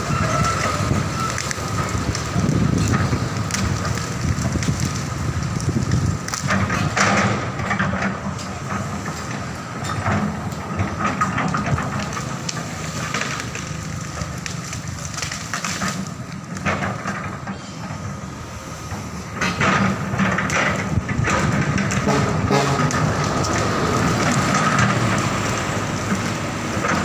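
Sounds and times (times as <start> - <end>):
branches clattering and cracking: 0.0 - 27.0
excavator engine with whine: 0.0 - 27.0.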